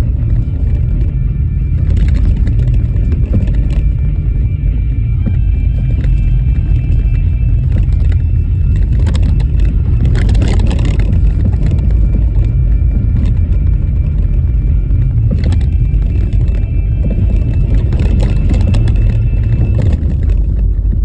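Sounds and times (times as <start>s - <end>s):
car rattles and knocks: 0.0s - 21.0s
tyres rumbling on snowy road: 0.0s - 21.0s.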